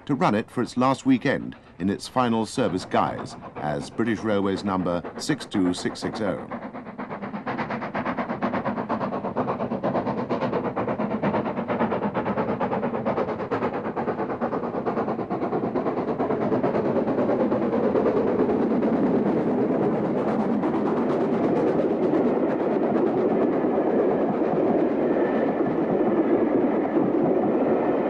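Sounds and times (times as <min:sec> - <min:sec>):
steam locomotive exhaust beats: 0:00.0 - 0:28.0.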